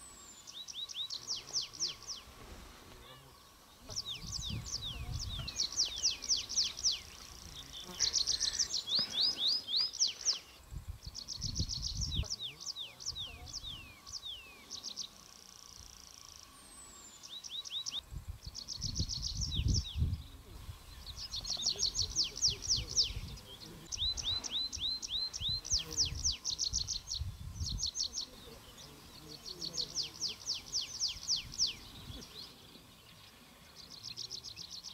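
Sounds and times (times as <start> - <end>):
birds calling: 0.0 - 34.9
songbirds singing: 0.0 - 34.9.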